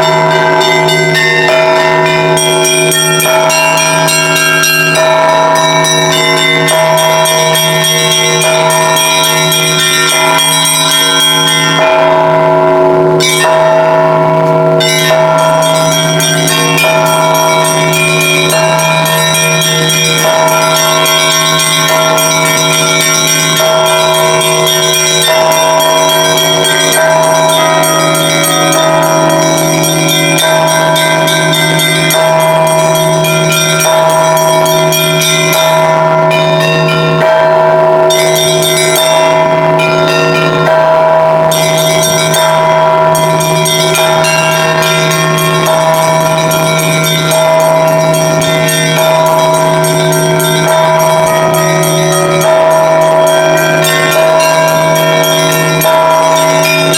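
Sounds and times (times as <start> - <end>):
large bell humming: 0.0 - 56.9
small church bells ringing: 0.0 - 56.9.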